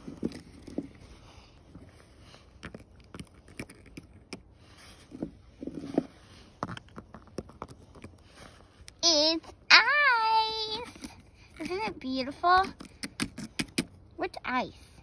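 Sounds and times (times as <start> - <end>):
hand handling noise: 0.0 - 14.1.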